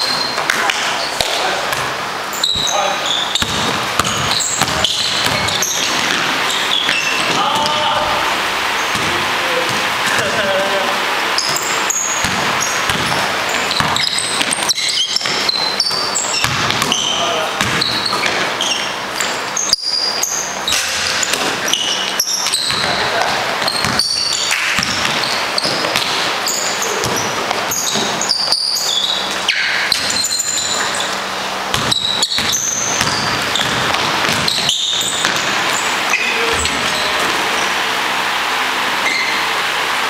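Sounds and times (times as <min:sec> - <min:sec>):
basketball bouncing on gym floor: 0:00.0 - 0:08.2, 0:08.8 - 0:10.5, 0:11.4 - 0:37.6
sneaker squeaks: 0:00.0 - 0:10.5, 0:11.1 - 0:40.0.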